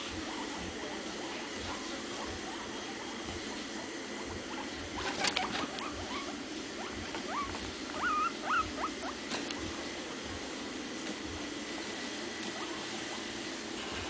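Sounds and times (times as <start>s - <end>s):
guinea pig squeaking: 0.0s - 11.5s, 12.4s - 13.5s.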